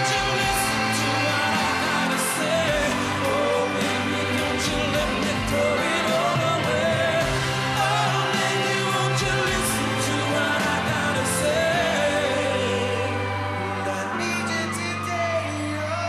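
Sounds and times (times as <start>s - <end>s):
band accompaniment: 0.0s - 16.0s
male group singing pop song: 0.0s - 16.0s.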